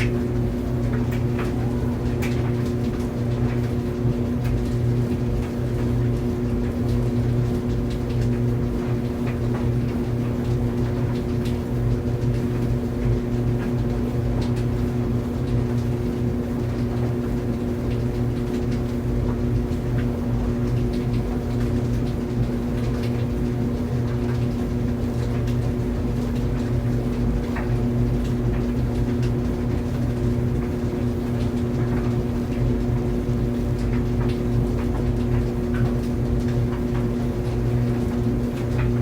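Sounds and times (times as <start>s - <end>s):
clothes dryer running: 0.0s - 39.0s.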